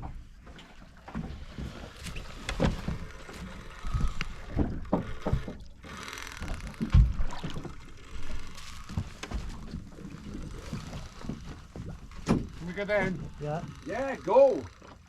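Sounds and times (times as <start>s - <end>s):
knocking and thumping on boat: 0.0s - 15.0s.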